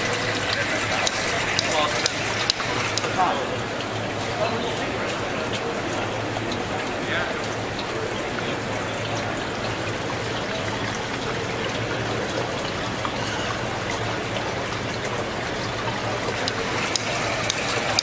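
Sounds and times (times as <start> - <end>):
water drops spattering: 0.0 - 18.0
water spraying and splashing: 0.0 - 18.0
water trickling into basin: 0.0 - 18.0.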